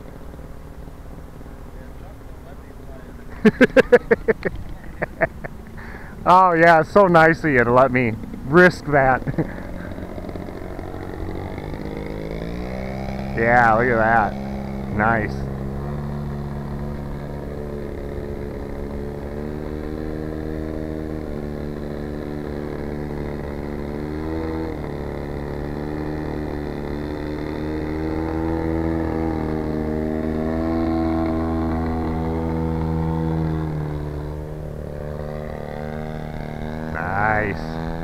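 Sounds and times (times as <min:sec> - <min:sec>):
model plane engine droning: 0:00.0 - 0:38.0.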